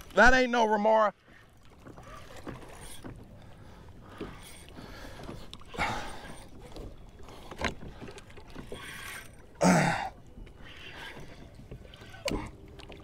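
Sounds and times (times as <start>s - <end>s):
water sloshing around kayak: 0.0s - 13.0s.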